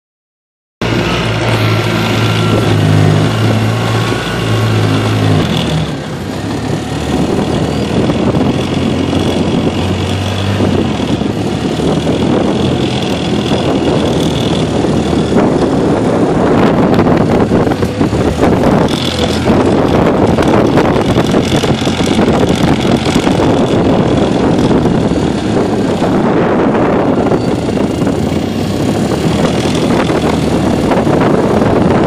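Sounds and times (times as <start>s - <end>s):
broad rushing noise: 0.8s - 32.0s
vehicle engine running: 0.8s - 32.0s.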